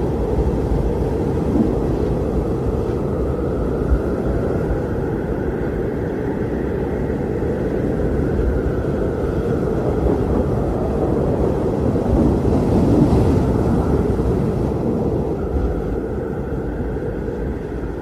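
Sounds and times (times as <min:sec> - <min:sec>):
strong blizzard wind: 0:00.0 - 0:18.0.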